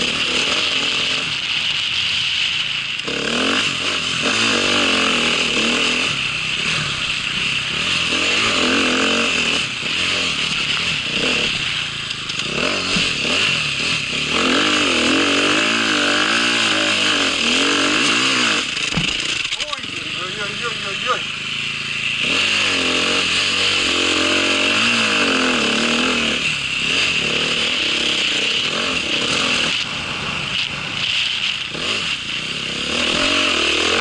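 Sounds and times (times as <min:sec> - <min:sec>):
small engine revving: 0:00.0 - 0:34.0.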